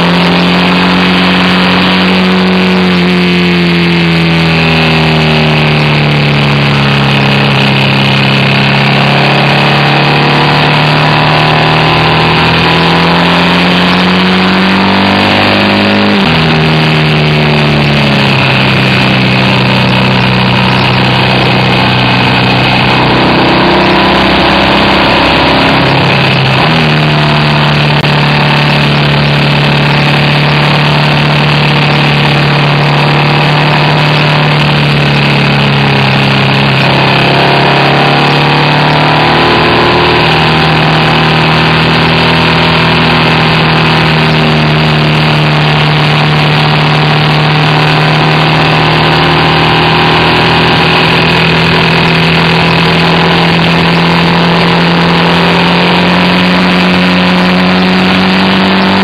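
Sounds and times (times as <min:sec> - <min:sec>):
motorcycle engine: 0:00.0 - 0:59.0
wind and road noise: 0:00.0 - 0:59.0.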